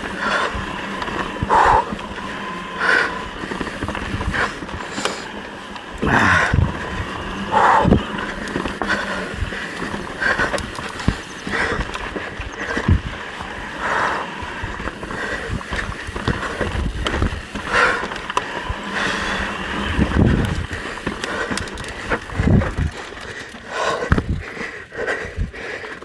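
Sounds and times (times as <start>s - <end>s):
bike knocks and rattles: 0.0s - 24.6s
bike tyres on rocky trail: 0.0s - 26.0s.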